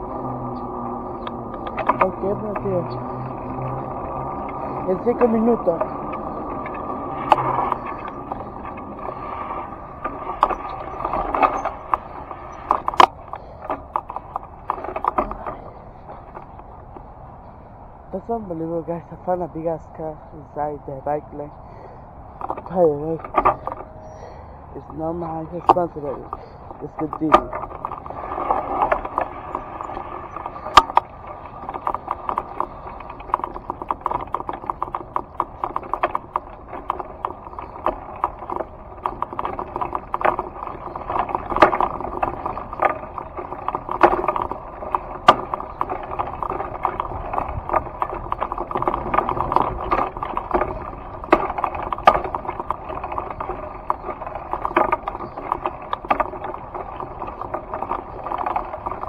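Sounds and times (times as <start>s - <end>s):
clicks and rattles: 0.0s - 17.1s, 22.3s - 59.0s.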